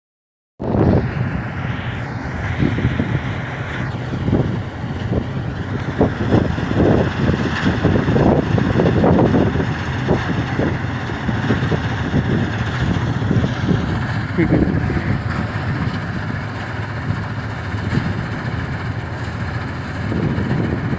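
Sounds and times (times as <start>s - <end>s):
diesel engine running under load: 0.6s - 20.9s.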